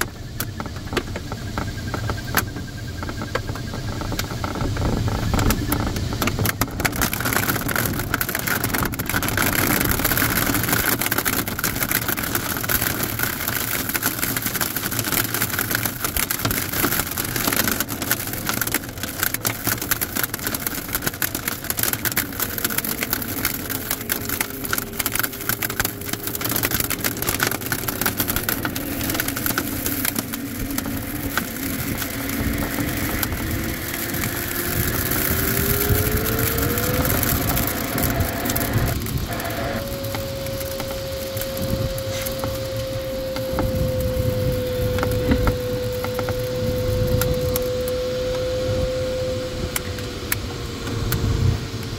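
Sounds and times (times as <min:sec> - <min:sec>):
rain ticking on canopy: 0:00.0 - 0:51.9.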